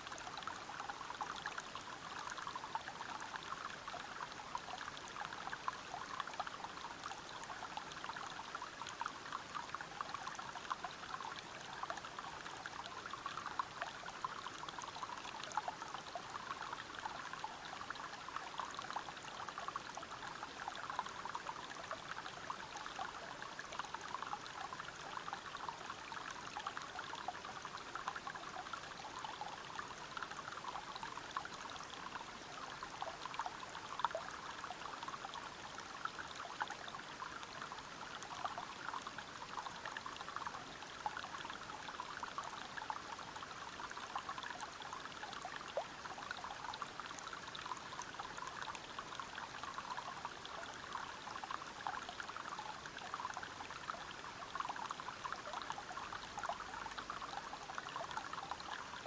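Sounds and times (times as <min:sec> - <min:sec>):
water flowing over rocks: 0:00.0 - 0:59.0.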